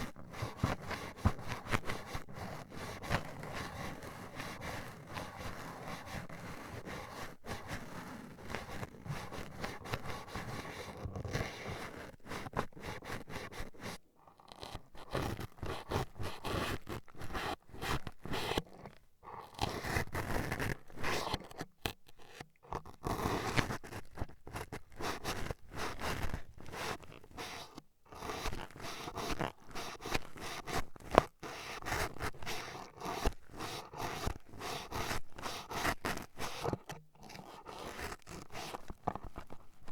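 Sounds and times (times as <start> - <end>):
toothpick scratching microphone: 0.0 - 39.9.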